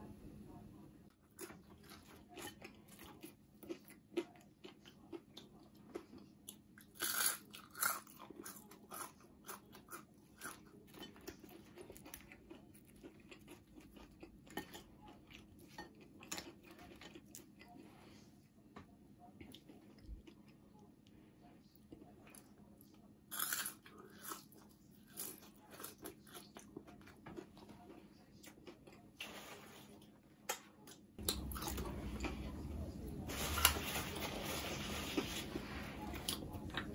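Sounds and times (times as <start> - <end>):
crispy fries being chewed: 1.1 - 18.3, 19.2 - 36.9.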